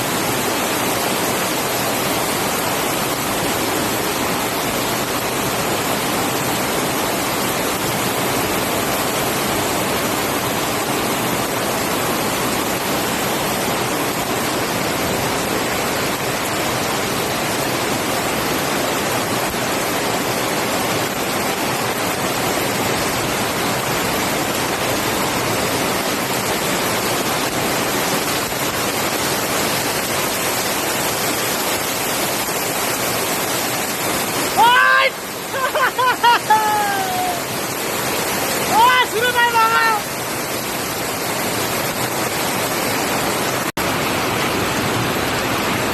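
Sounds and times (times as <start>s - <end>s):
floodwater rushing: 0.0s - 45.9s.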